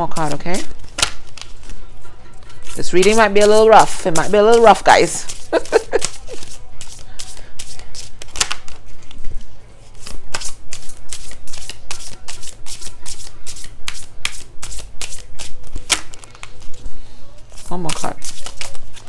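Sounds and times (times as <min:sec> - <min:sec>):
cards being shuffled: 0:00.2 - 0:01.8, 0:02.6 - 0:16.8, 0:17.4 - 0:19.0.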